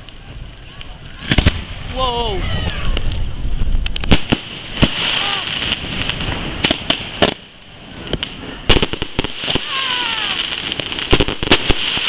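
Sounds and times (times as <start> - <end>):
fireworks bangs and pops: 0.0 - 12.0
fireworks crackling hiss: 0.0 - 12.0.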